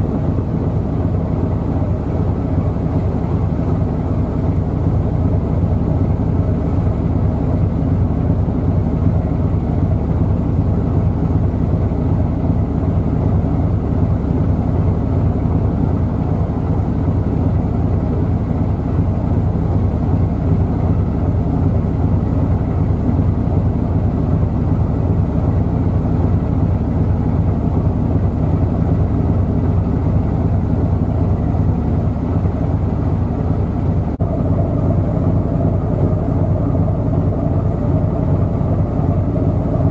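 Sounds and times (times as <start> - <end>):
boat diesel engine droning: 0.0 - 39.9.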